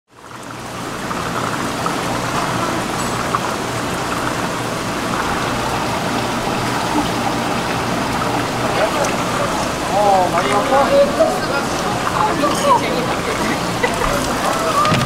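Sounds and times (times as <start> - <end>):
running water splashing: 0.1 - 15.0.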